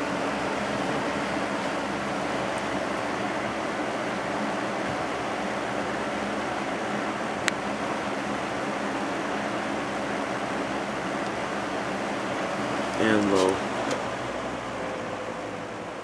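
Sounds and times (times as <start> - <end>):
box fan air rush: 0.0 - 16.0
faint motor hum: 0.0 - 16.0.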